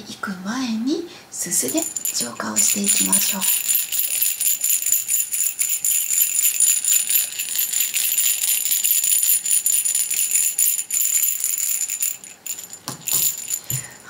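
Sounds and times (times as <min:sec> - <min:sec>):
small hand bells jingling: 0:01.6 - 0:14.0.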